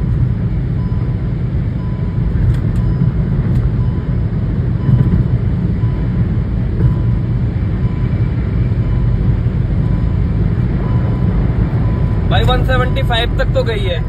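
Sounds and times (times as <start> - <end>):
car engine drone: 0.0 - 14.0
road and wind noise: 0.0 - 14.0.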